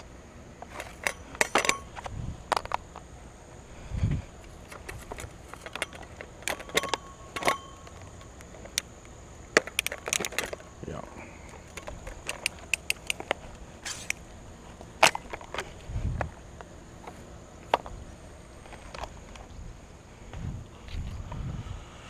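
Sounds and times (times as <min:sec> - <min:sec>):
fan parts clicking and rattling: 0:00.0 - 0:19.6.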